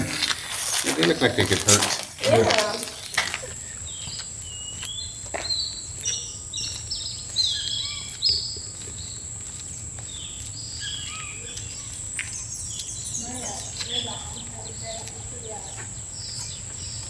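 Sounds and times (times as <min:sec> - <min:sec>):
birds calling: 0:00.0 - 0:17.0
insect drone: 0:00.0 - 0:17.0.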